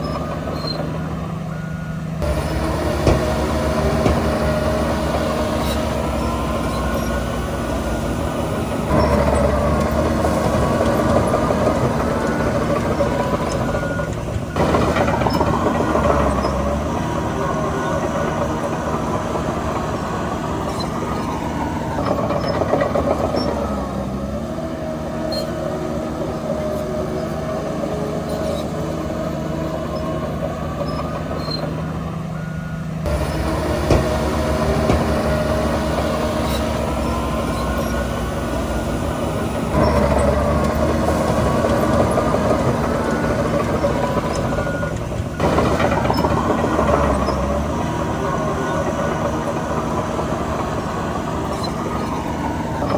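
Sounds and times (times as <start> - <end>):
diesel engines under load: 0.0 - 52.9.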